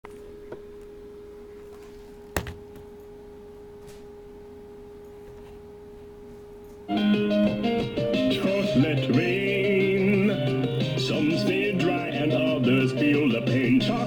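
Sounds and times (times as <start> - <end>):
steady pure tone: 0.1 - 14.0.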